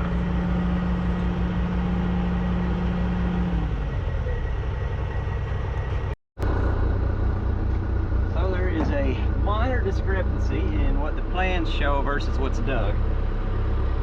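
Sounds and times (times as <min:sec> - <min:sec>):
diesel engine running: 0:00.0 - 0:14.0
steady tone in engine hum: 0:00.0 - 0:14.0.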